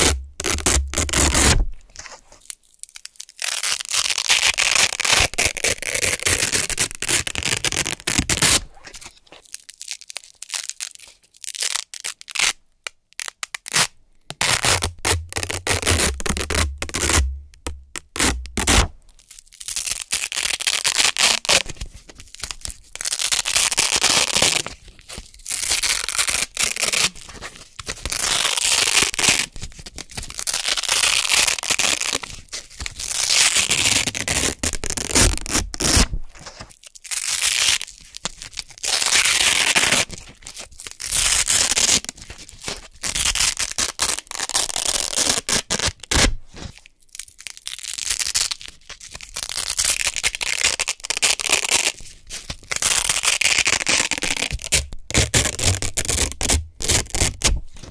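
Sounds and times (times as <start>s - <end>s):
velcro ripping apart: 0.0s - 57.9s.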